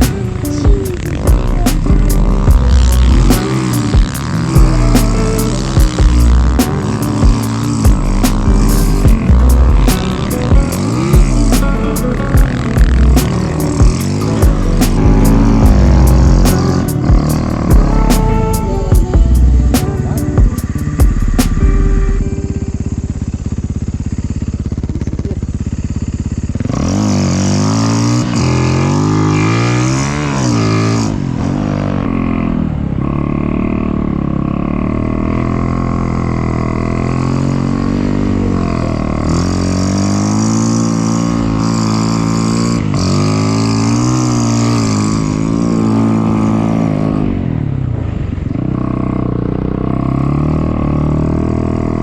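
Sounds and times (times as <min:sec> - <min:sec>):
snow bike engine revving: 0:00.0 - 0:52.0.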